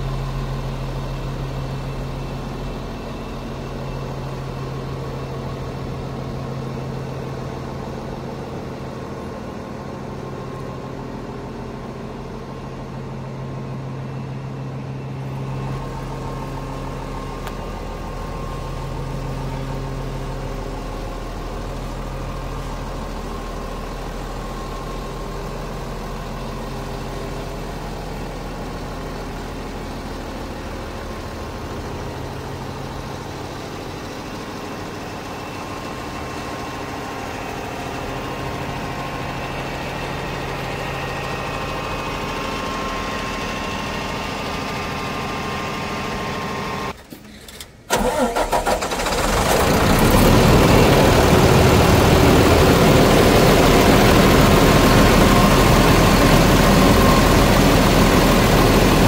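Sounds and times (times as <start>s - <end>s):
diesel engine idling: 0.0s - 47.0s, 47.9s - 59.0s.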